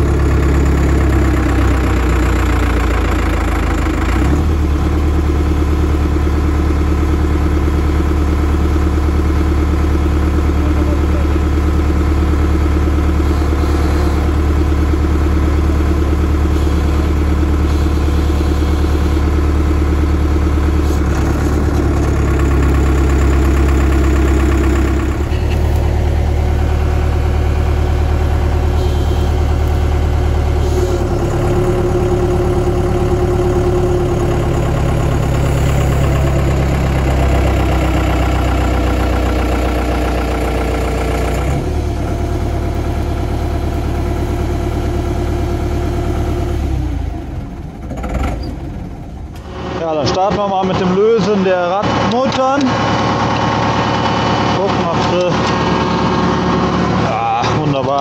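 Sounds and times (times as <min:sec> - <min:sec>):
diesel engine revving: 0:00.0 - 0:58.0.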